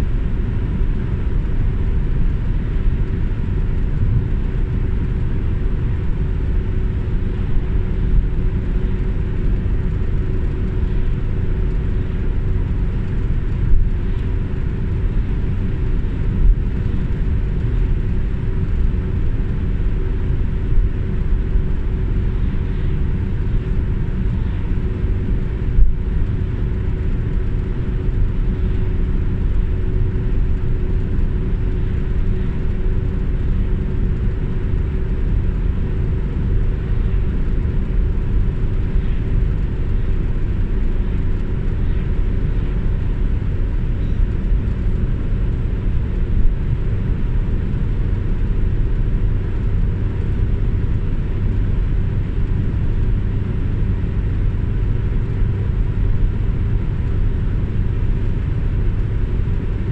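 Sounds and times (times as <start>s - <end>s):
car cabin road and engine noise: 0.0s - 59.9s.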